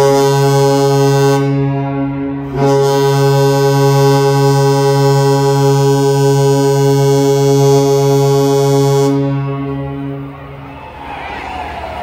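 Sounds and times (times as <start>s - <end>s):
arena goal horn: 0.0s - 10.7s.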